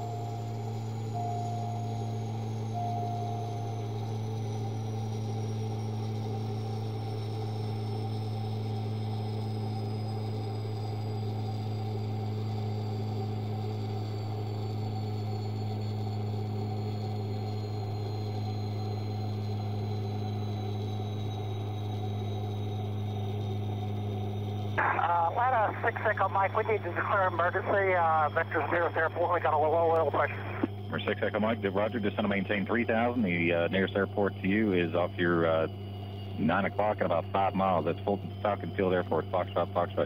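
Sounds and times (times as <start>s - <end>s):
turbine whine falling in pitch: 0.0s - 40.0s
turboprop engine drone: 0.0s - 40.0s.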